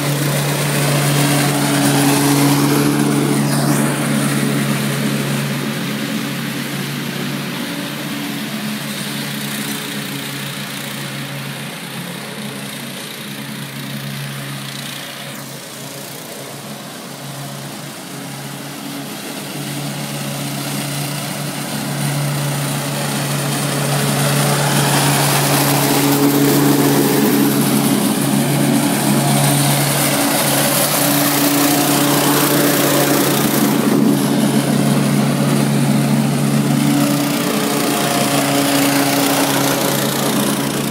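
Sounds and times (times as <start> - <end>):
lawn mower engine running: 0.0 - 40.9
mower blades cutting grass: 0.0 - 40.9.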